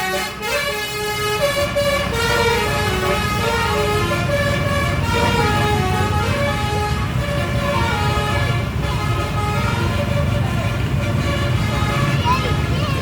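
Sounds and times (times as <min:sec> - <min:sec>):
bus engine running: 0:00.0 - 0:13.0
bus melody horn playing a tune: 0:00.0 - 0:13.0.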